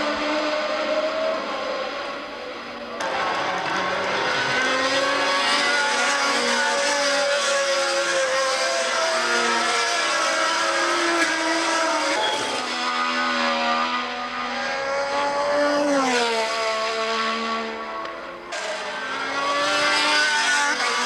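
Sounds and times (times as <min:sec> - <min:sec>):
racing engines at high revs: 0:00.0 - 0:21.0.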